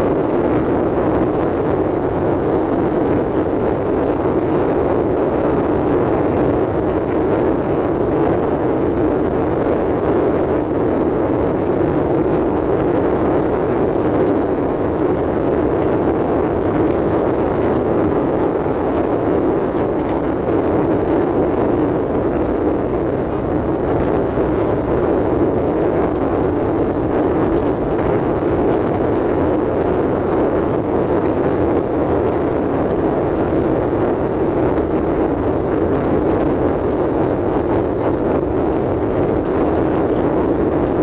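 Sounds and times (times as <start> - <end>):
road and wind noise in car: 0.0 - 41.0.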